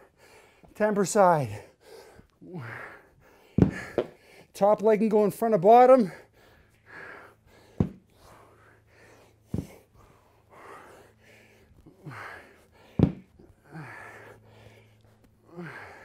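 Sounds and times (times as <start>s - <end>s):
man breathing hard: 0.0s - 0.8s, 1.4s - 4.6s, 6.0s - 16.0s.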